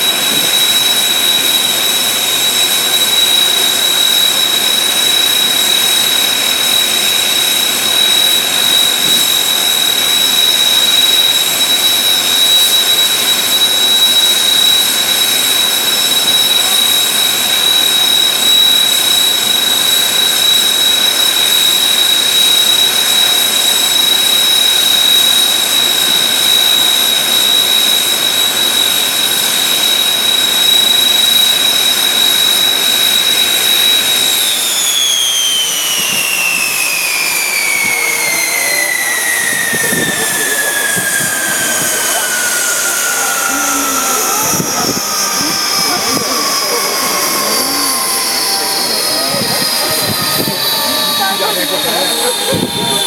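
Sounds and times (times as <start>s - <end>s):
high-pitched whine: 0.0s - 53.0s
jet engines running: 0.0s - 53.0s.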